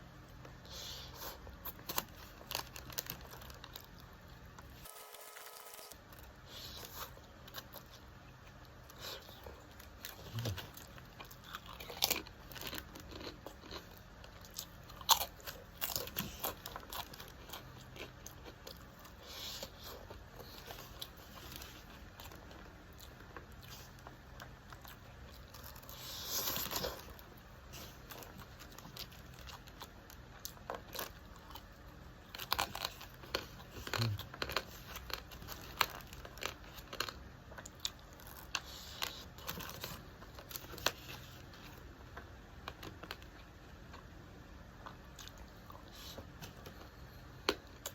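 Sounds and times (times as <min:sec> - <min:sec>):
person chewing food: 0:00.3 - 0:04.9, 0:06.1 - 0:47.9.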